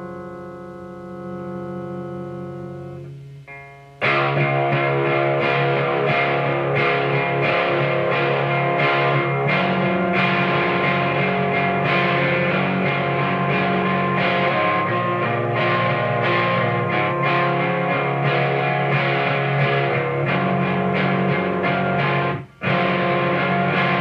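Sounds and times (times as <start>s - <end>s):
overdriven electric guitar chords: 0.0s - 24.0s.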